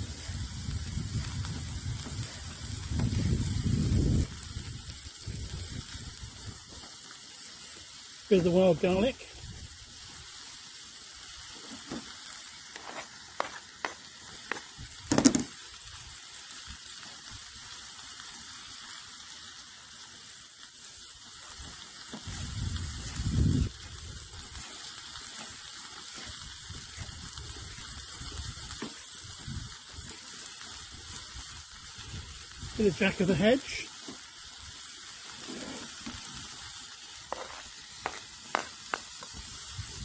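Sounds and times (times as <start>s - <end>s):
meat sizzling: 0.0s - 40.0s.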